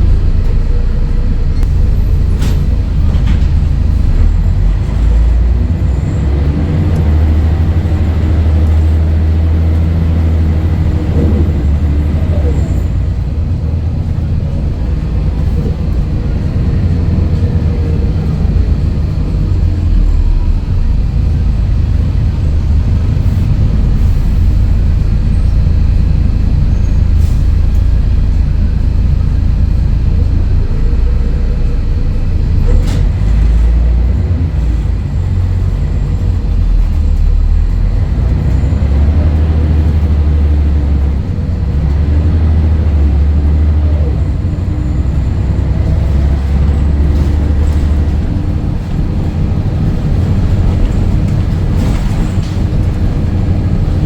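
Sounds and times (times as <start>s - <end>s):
bus diesel engine rumbling: 0.0s - 54.0s.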